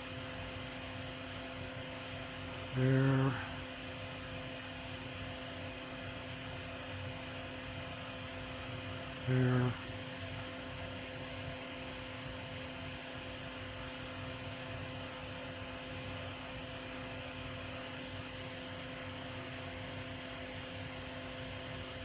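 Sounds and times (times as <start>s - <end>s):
low fan hum: 0.0s - 22.0s.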